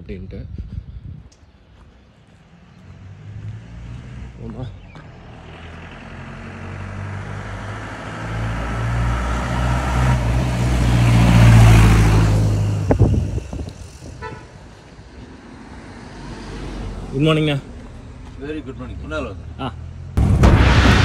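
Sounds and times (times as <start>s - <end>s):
vehicle engine passing: 2.4s - 21.0s.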